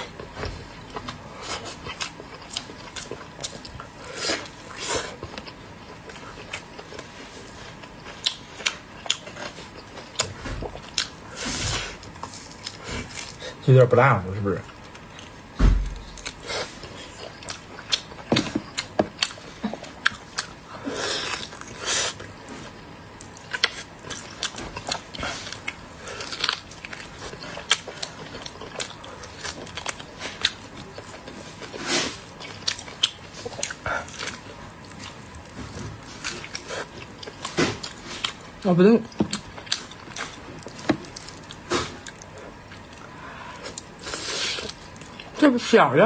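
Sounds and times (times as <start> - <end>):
person chewing wetly: 0.0 - 13.6, 14.6 - 45.4.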